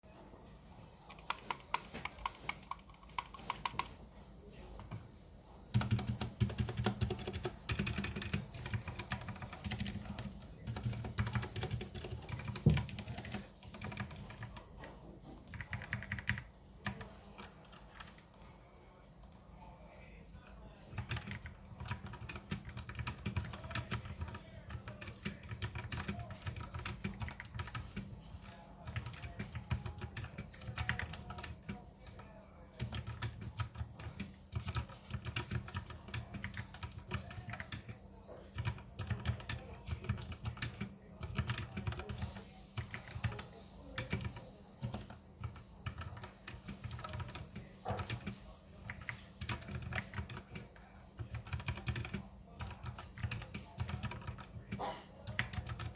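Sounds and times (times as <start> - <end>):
mechanical keyboard typing: 1.1 - 4.0, 5.7 - 18.5, 20.9 - 55.9.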